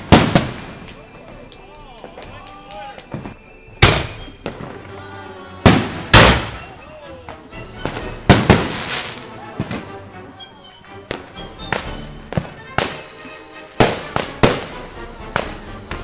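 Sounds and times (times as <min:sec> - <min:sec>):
fireworks sharp bangs: 0:00.0 - 0:02.4, 0:03.0 - 0:05.0, 0:05.6 - 0:10.0, 0:11.1 - 0:13.2, 0:13.8 - 0:16.0
firework cake firing: 0:00.0 - 0:09.9, 0:11.1 - 0:13.2, 0:13.8 - 0:16.0
background music: 0:00.0 - 0:16.0.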